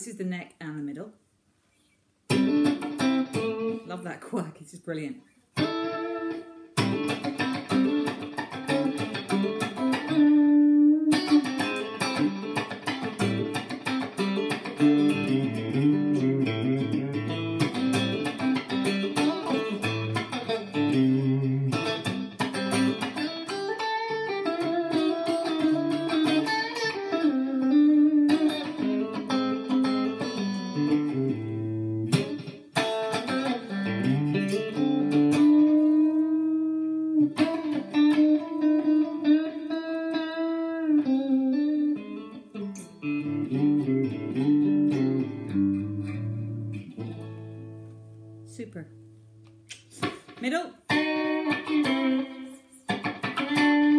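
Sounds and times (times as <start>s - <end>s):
clean electric guitar: 2.3s - 4.0s, 5.5s - 53.9s.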